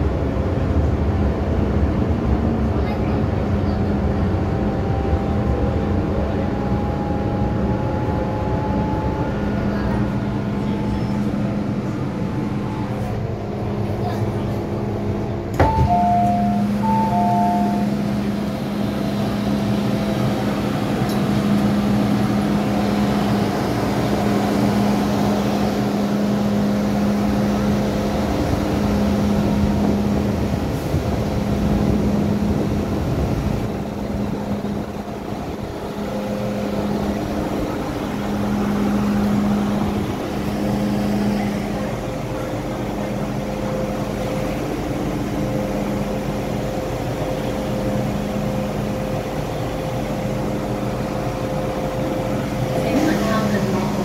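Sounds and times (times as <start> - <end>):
constant low hum: 0.0 - 54.0
train rumble from inside: 0.0 - 54.0.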